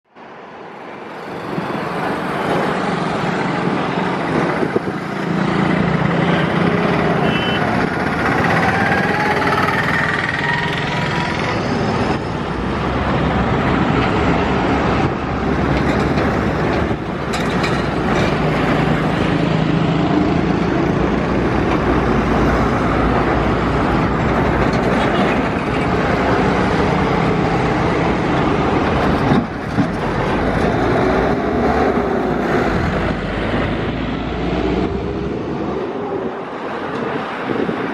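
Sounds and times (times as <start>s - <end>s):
traffic noise: 0.0s - 37.9s
truck and bus engines droning: 0.1s - 37.9s.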